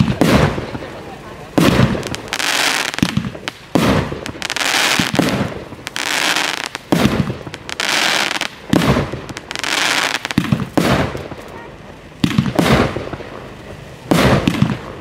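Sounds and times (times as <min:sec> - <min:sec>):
fireworks bangs: 0:00.0 - 0:15.0
hissing crackling firework spray: 0:00.0 - 0:15.0.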